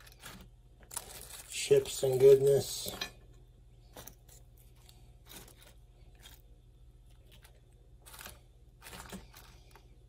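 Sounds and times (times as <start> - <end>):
chips crackling and crunching: 0.0 - 2.9, 3.9 - 10.0
low steady hum: 0.0 - 10.0.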